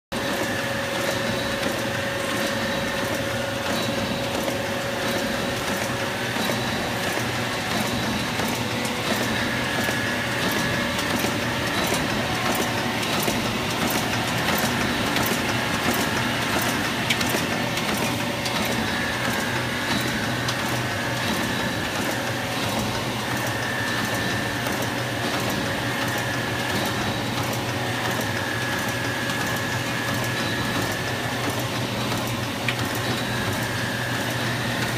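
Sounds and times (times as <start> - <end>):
mechanical hum: 0.1 - 34.9
high machine whine: 0.2 - 34.9
regular mechanical clicking: 0.2 - 34.9.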